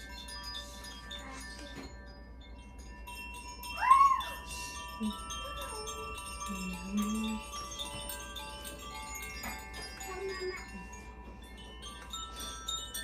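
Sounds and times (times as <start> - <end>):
chimes ringing: 0.0 - 13.0.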